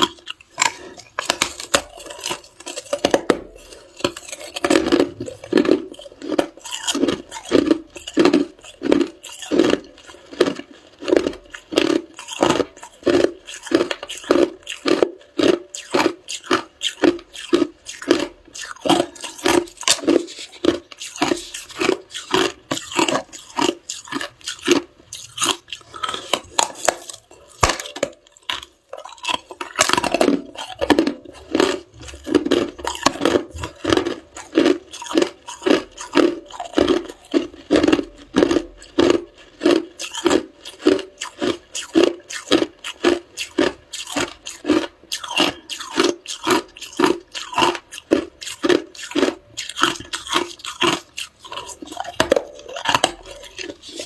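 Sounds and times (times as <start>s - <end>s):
person crunching ice: 0.0s - 54.0s.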